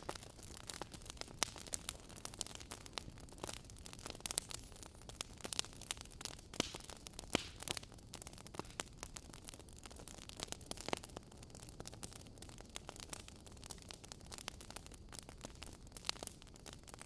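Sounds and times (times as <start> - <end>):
logs crackling and popping: 0.0 - 17.0
soft hiss of flame: 0.0 - 17.0.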